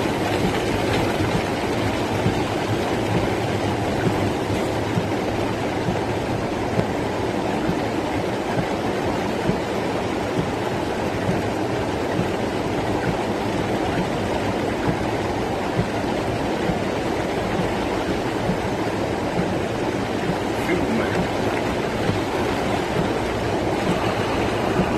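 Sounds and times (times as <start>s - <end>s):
rainwater rushing along a street: 0.0s - 24.9s.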